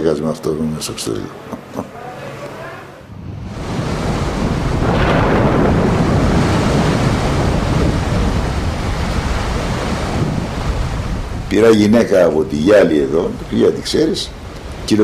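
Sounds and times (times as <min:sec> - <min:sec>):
wind: 0:00.0 - 0:15.0
sea waves: 0:01.3 - 0:15.0.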